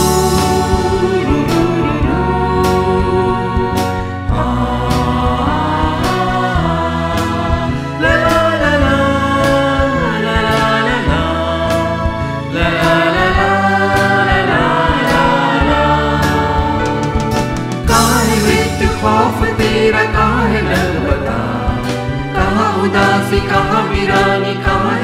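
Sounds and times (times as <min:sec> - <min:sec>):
instrumental accompaniment: 0:00.0 - 0:25.0
mixed choir singing a hymn: 0:00.0 - 0:25.0.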